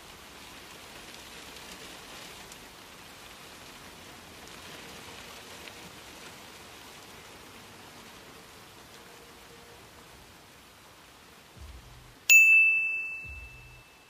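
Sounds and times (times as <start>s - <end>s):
vehicle cab ambience hiss: 0.0s - 12.3s.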